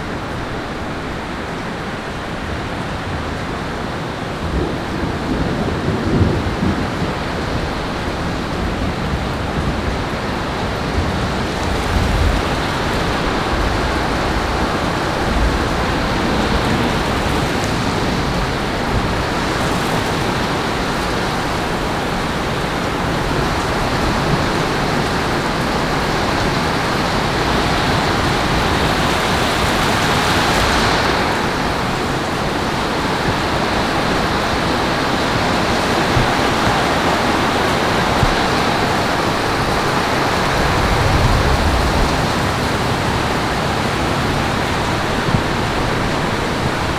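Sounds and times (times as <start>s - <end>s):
heavy rain falling: 0.0s - 46.9s
thunder rumbles: 4.3s - 46.9s.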